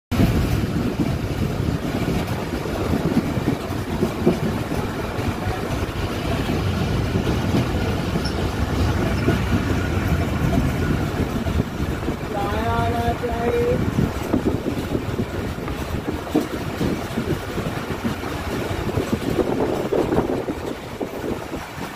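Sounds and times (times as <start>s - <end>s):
train rattles and knocks: 0.1s - 21.9s
train wheels rumbling on rails: 0.1s - 21.9s.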